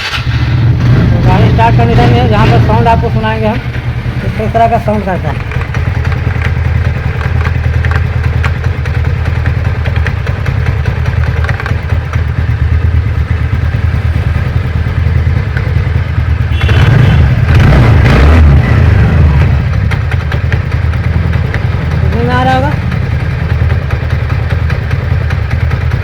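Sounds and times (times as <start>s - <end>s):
scooter engine idling and revving: 0.0s - 26.0s.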